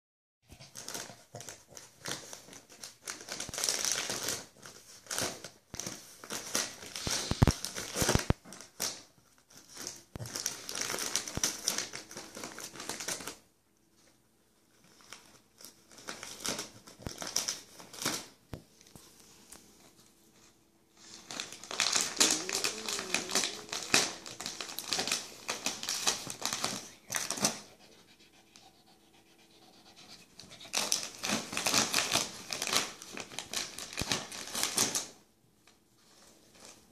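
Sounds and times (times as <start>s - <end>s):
gift-wrap paper crinkling: 0.5s - 27.8s, 30.2s - 36.9s.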